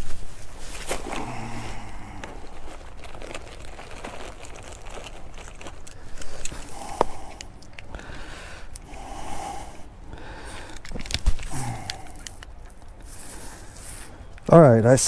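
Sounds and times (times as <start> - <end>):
handling rustling: 0.0 - 14.6.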